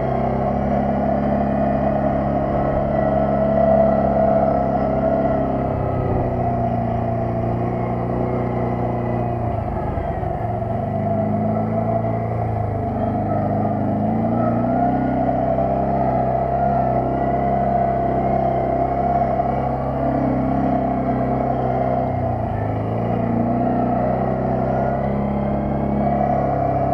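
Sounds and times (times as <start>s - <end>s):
atv engine running: 0.0s - 26.9s.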